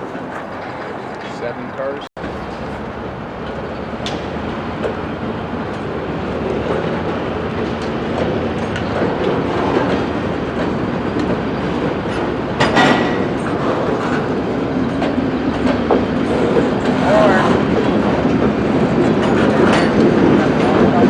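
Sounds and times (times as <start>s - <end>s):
freight cars rolling: 0.0s - 21.0s
wheels clicking over rail joints: 3.4s - 21.0s.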